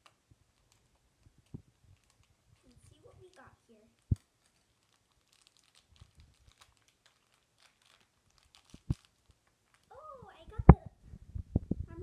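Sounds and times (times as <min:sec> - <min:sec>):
plastic wrapper crinkling: 0:00.0 - 0:10.7.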